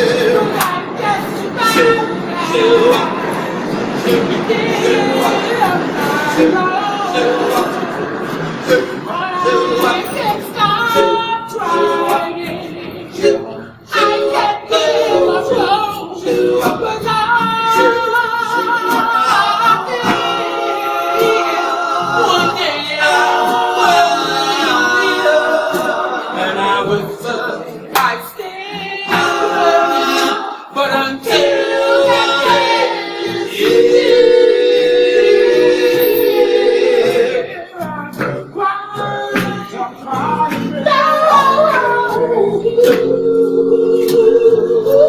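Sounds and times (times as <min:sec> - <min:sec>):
men singing in harmony: 0:00.0 - 0:45.0.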